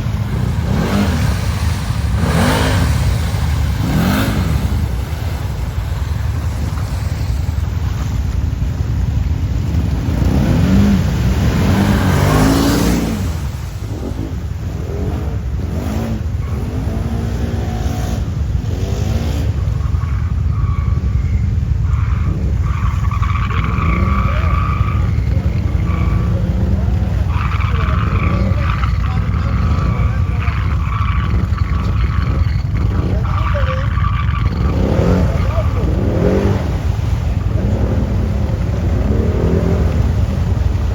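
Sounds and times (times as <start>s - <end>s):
high engine whine: 0.0s - 40.9s
quad bike engines revving: 0.0s - 40.9s.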